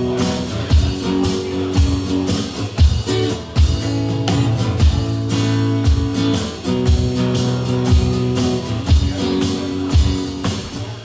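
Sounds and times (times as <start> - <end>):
steady low beat: 0.0 - 10.4
strummed guitar chords: 0.0 - 11.0.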